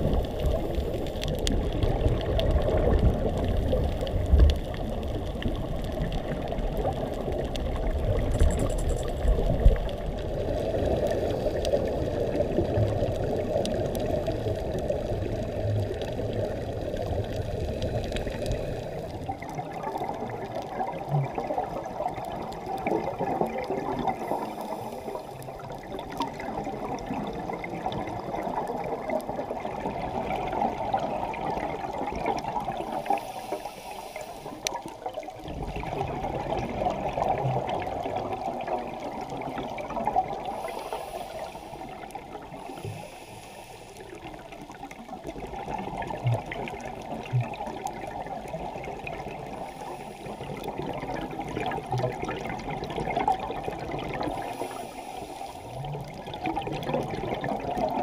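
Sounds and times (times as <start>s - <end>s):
underwater exhalation bubbling: 0.0s - 33.5s, 34.6s - 43.1s, 44.2s - 55.0s, 55.6s - 58.0s.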